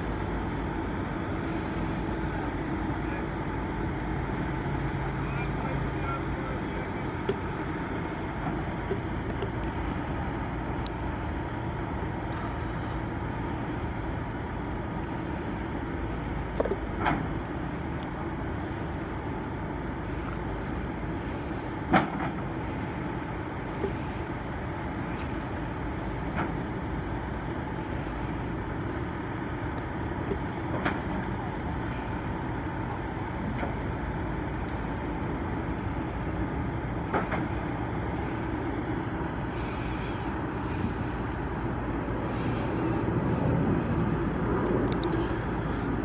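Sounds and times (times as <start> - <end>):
crane diesel engine running: 0.0 - 46.0.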